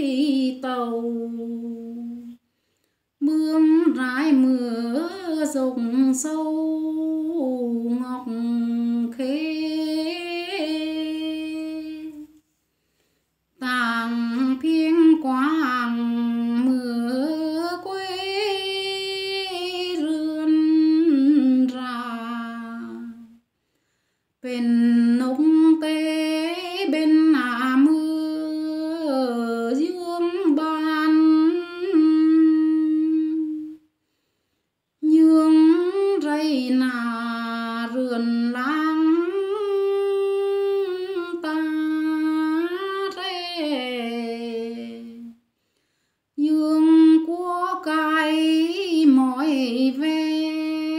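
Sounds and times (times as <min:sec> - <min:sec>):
woman singing unaccompanied: 0:00.0 - 0:02.4, 0:03.2 - 0:12.4, 0:13.6 - 0:23.4, 0:24.4 - 0:33.9, 0:35.0 - 0:45.4, 0:46.4 - 0:50.9.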